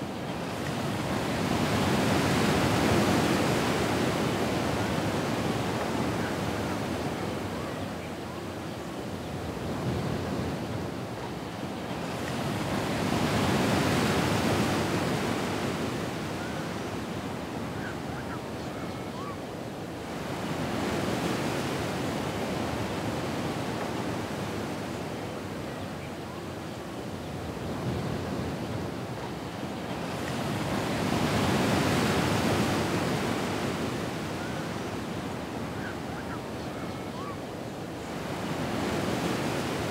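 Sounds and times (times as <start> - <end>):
ocean waves washing in and out: 0.0 - 39.9.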